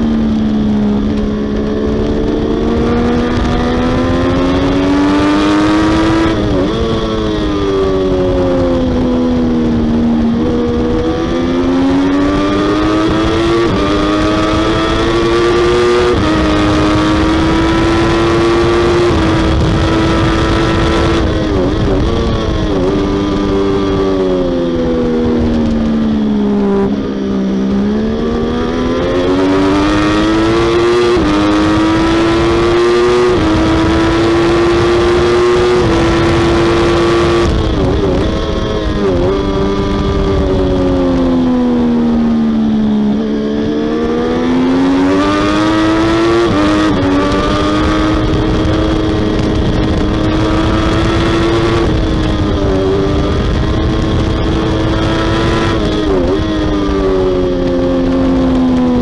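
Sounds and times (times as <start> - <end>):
motorcycle engine revving hard: 0.0 - 59.0.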